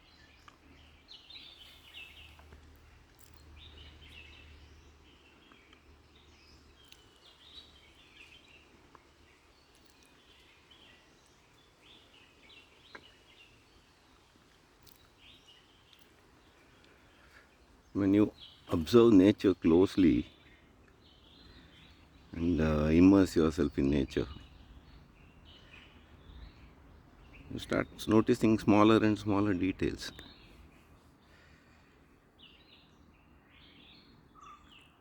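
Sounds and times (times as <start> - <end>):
outdoor background noise: 0.0 - 35.0
small birds chirping: 0.0 - 35.0.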